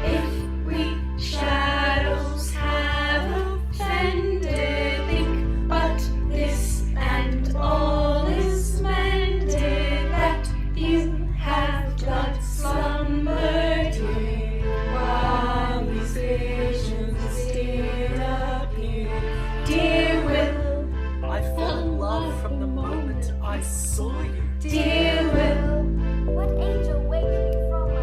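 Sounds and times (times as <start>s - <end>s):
voices singing together: 0.0s - 26.2s
low bass notes: 0.0s - 28.0s.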